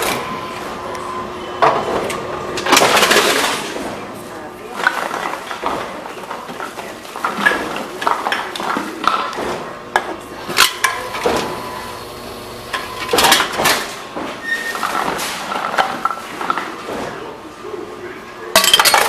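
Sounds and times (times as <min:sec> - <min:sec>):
bottles and cans clattering in machine: 0:01.6 - 0:17.4, 0:18.5 - 0:19.0.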